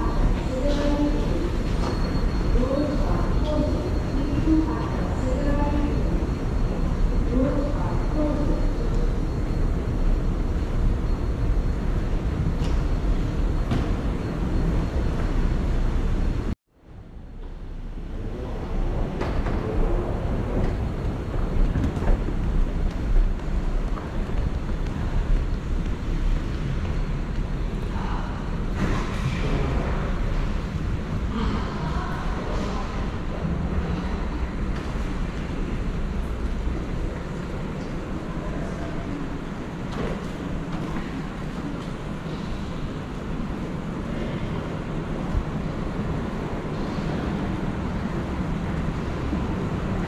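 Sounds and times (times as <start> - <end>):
train rumble and hiss: 0.0 - 50.0.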